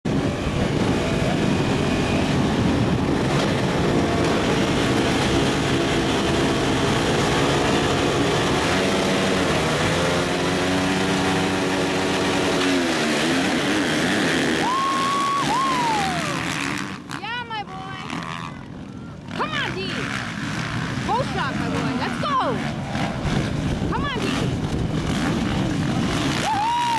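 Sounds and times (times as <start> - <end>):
motocross bike engines revving: 0.1 - 26.9.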